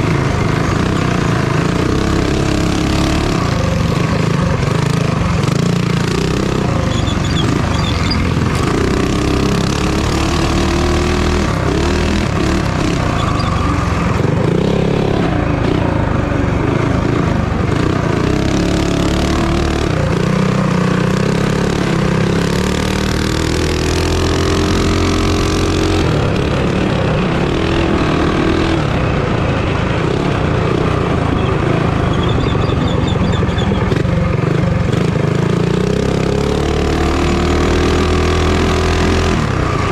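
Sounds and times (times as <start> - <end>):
minibike engines revving: 0.0 - 39.9.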